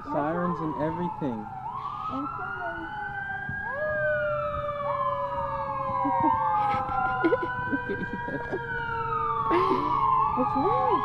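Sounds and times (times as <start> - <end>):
fire truck sirens wailing: 0.0 - 11.0.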